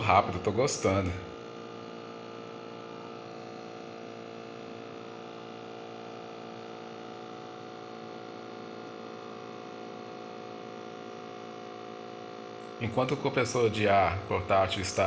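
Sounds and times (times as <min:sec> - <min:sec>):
tire inflator compressor humming: 0:00.0 - 0:15.0.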